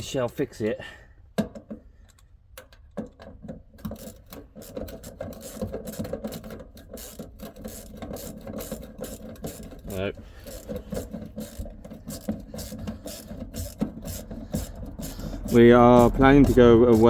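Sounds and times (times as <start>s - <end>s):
hand ratchet clicking: 2.0s - 17.0s.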